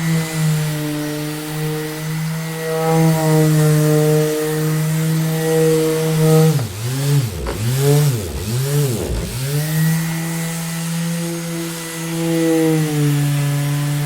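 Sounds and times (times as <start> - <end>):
electric orbital sander running: 0.1 - 14.0.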